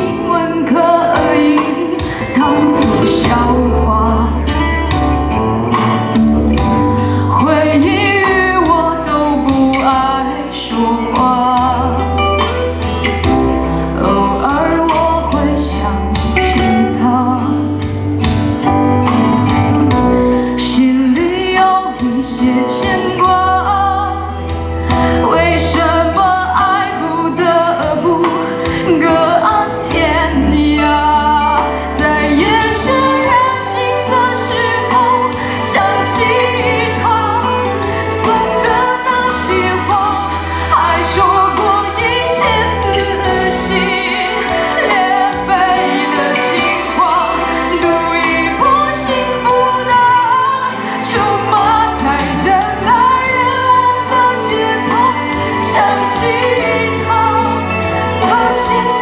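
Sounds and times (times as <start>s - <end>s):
woman singing into microphone: 0.0s - 18.2s, 20.1s - 59.0s
instrumental accompaniment with bass: 0.0s - 59.0s.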